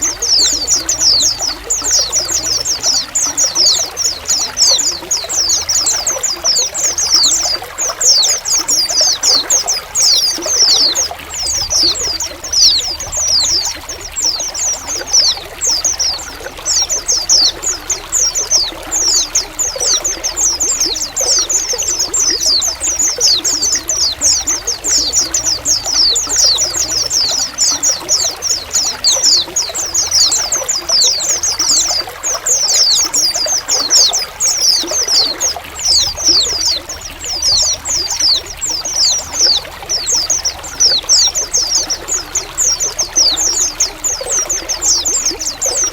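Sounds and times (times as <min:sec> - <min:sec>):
birds chirping: 0:00.0 - 0:45.9
water trickling: 0:00.0 - 0:45.9.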